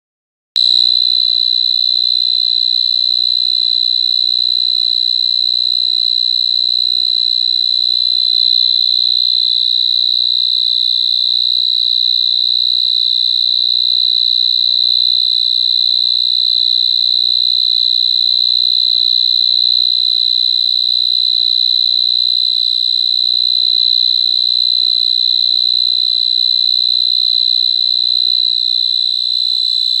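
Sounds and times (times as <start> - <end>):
cricket trilling: 0.6 - 30.0.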